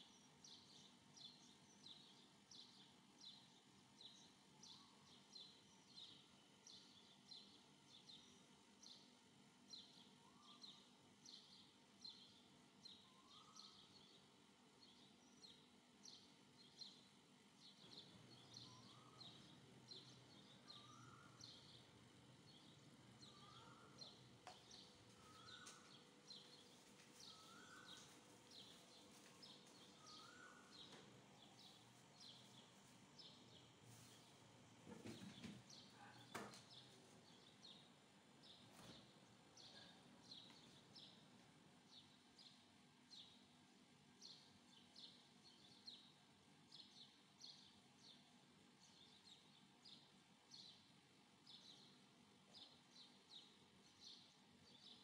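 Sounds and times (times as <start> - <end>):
faint bird chirping: 0.0 - 55.0.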